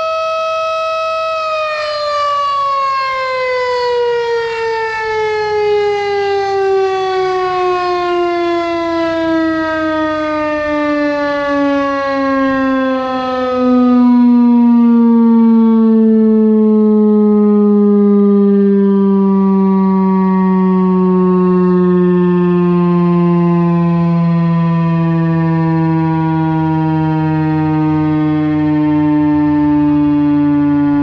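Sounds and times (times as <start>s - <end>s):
warning siren winding down: 0.0s - 31.0s.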